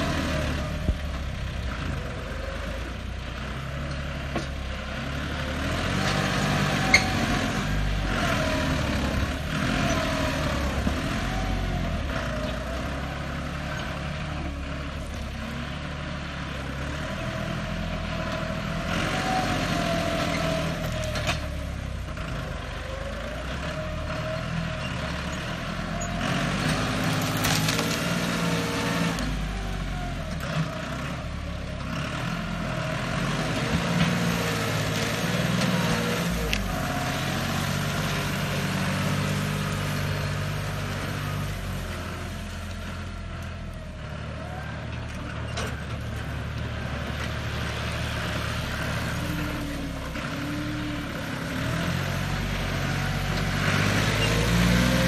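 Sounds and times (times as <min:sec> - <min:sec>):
tractor diesel engine working hard: 0:00.0 - 0:55.0.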